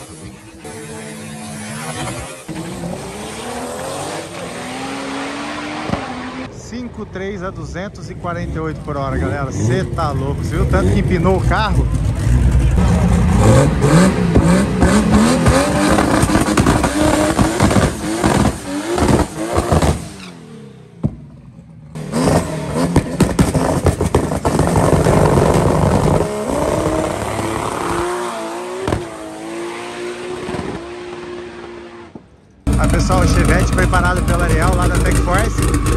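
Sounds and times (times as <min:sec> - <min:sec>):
drag car engine revving: 0:00.0 - 0:06.5, 0:08.1 - 0:21.1, 0:21.8 - 0:35.9
car accelerating: 0:00.0 - 0:35.9.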